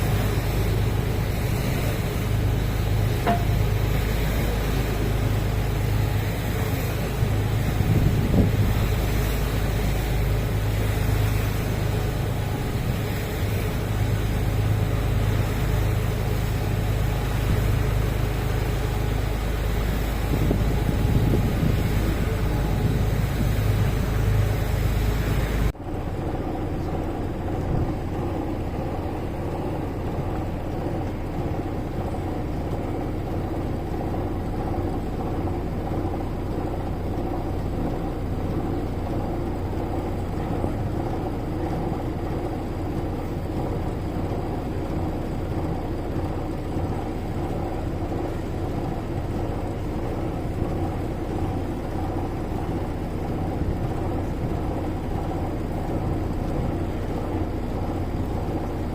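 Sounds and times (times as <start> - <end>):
vehicle engine humming: 0.0 - 58.9.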